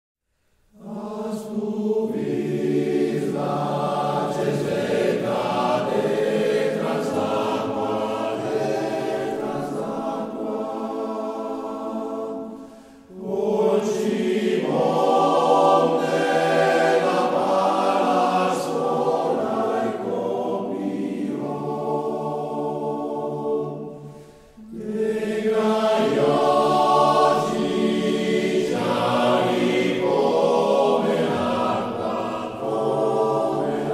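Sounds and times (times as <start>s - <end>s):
choir singing: 0.7s - 33.9s.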